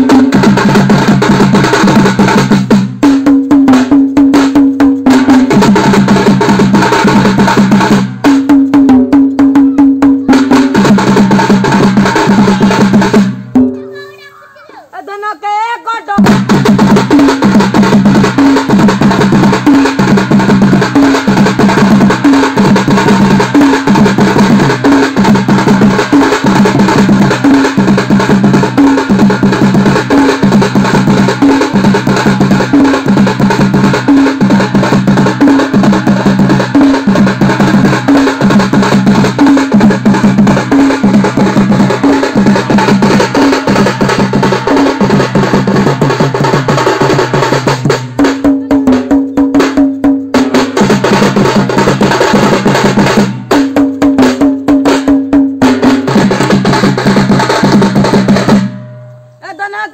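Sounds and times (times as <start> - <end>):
drums played fast: 0.0 - 59.9.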